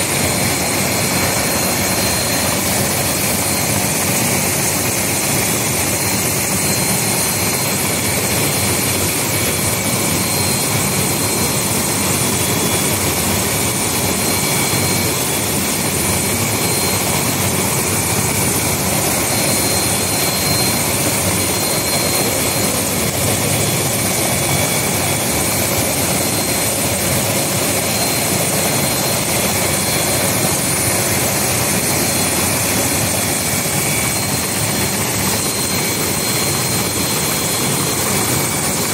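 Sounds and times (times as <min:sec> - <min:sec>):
helicopter engine and rotor: 0:00.0 - 0:38.9
high turbine whine: 0:00.0 - 0:38.9.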